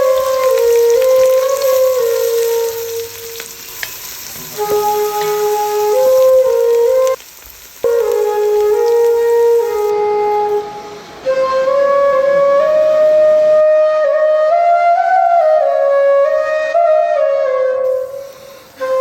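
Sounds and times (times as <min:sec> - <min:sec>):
flute-like slow melody: 0:00.0 - 0:07.2, 0:07.8 - 0:19.0.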